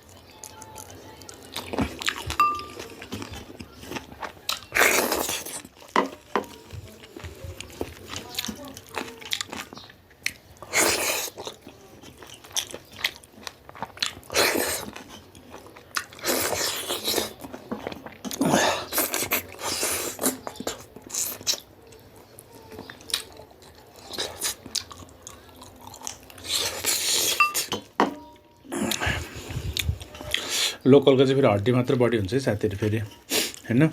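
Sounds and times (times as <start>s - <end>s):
chewing and crunching bone: 0.0s - 28.0s.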